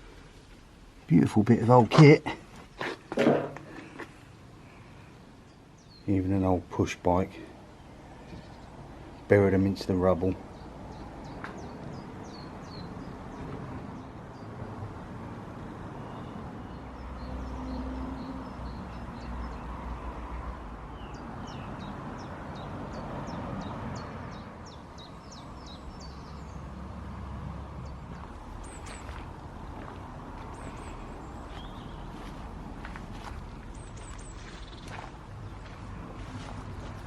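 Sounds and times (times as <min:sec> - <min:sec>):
small birds chirping: 0:03.8 - 0:14.6, 0:16.0 - 0:26.9, 0:27.7 - 0:37.0.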